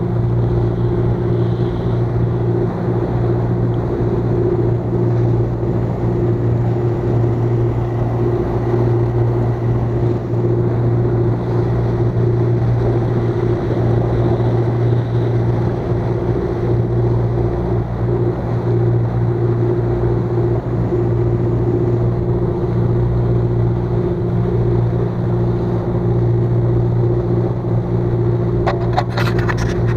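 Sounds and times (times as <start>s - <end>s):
motorboat engine droning: 0.0s - 29.9s.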